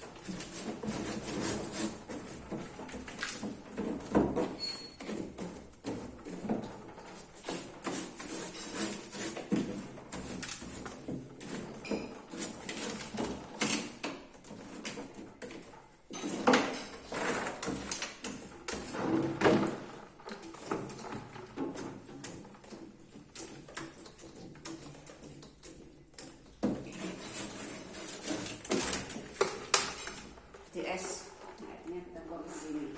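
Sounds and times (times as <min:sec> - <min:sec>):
things clattering in a refrigerator: 0:00.0 - 0:31.8.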